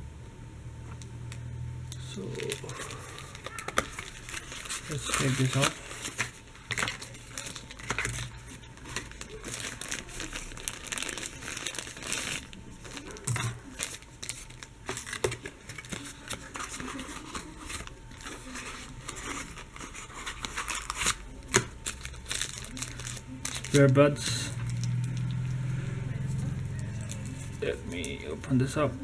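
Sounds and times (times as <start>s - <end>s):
packaging crinkling and rustling: 2.0s - 29.0s.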